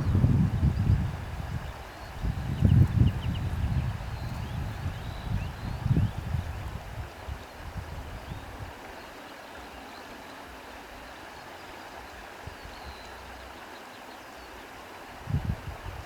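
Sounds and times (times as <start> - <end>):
wind rustling through reeds: 0.0 - 16.0.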